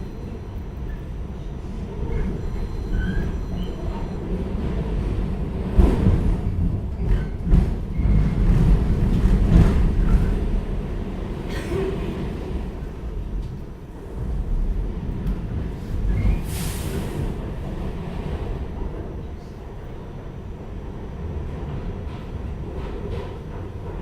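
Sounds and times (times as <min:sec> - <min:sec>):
subway wheels rumbling on rail: 0:00.0 - 0:24.0.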